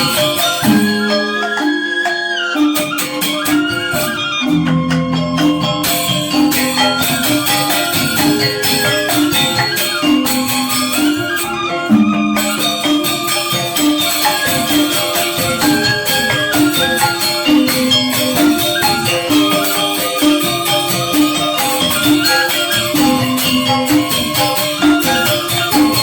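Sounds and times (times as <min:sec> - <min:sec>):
gamelan ensemble playing: 0:00.0 - 0:26.0.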